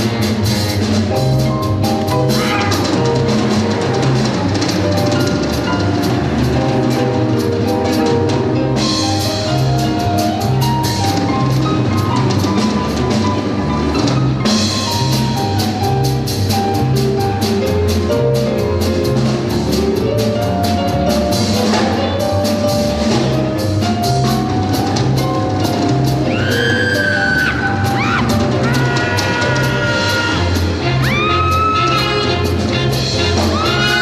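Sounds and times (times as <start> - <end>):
upbeat music with drum beat: 0.0 - 34.0.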